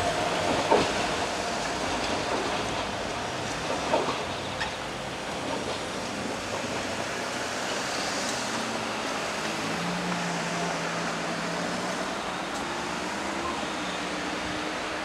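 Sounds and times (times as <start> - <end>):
electric train running on track: 0.0 - 15.0.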